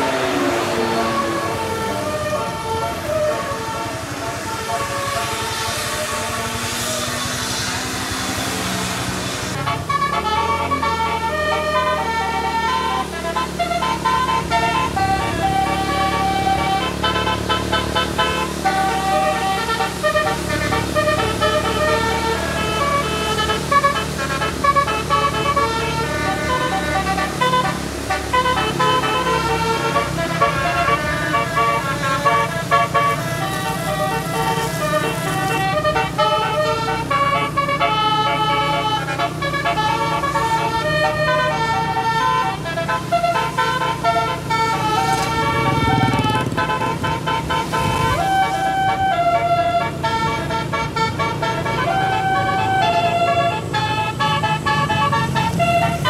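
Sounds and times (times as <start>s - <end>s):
bus air horns playing tunes: 0.0s - 56.0s
bus engine running: 0.0s - 56.0s.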